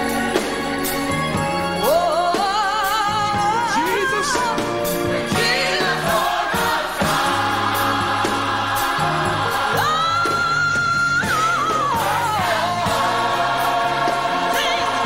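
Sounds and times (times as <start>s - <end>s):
gospel choir singing: 0.0s - 15.0s.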